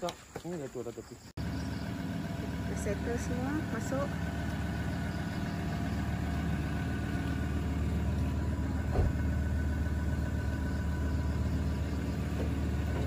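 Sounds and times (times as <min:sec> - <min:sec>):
car engine idling: 0:01.4 - 0:13.0.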